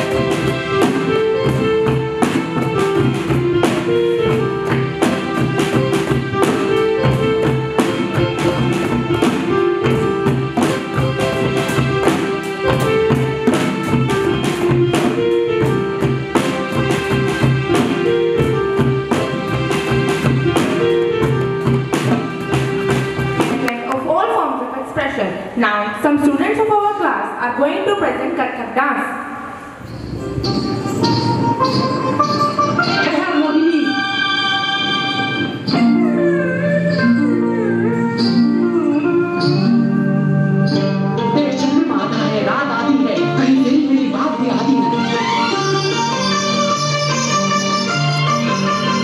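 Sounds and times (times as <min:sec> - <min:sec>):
percussion ensemble music: 0:00.0 - 0:24.7, 0:29.5 - 0:49.0.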